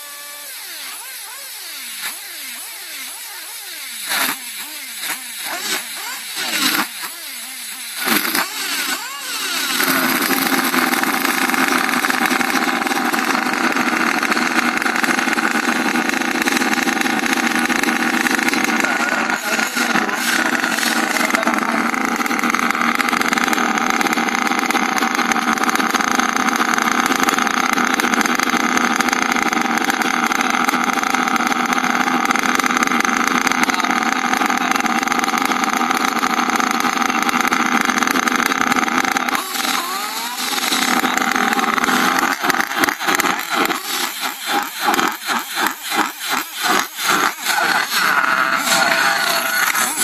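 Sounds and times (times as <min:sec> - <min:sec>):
radio-controlled car motors whining: 0:00.0 - 0:50.0.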